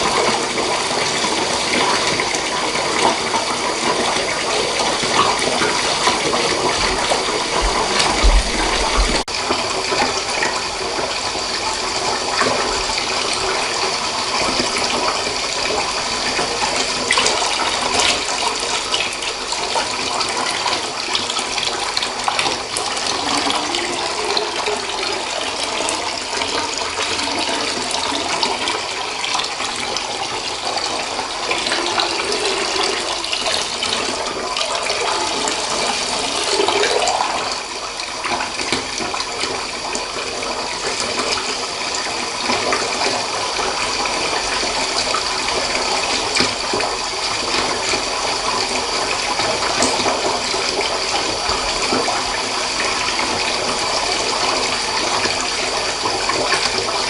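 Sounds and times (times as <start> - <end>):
water running into a bathtub: 0.0 - 57.0.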